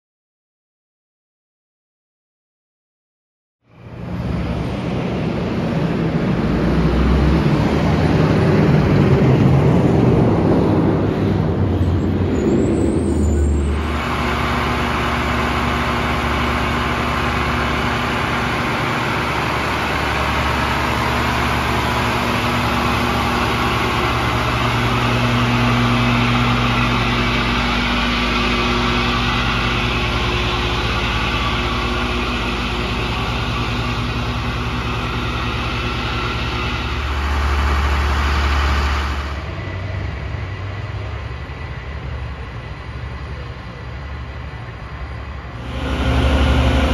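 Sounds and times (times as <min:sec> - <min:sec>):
diesel engine rumbling: 0:03.6 - 0:46.9.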